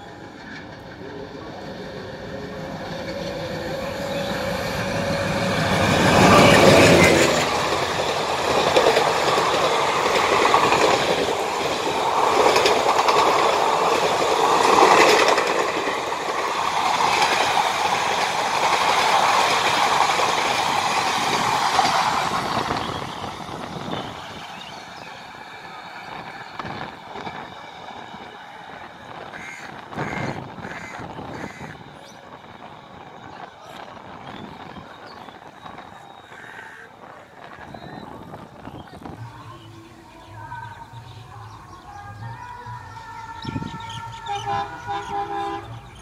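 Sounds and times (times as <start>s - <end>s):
diesel locomotive engine passing: 0.0s - 46.0s
train coaches rail rumble: 0.0s - 46.0s.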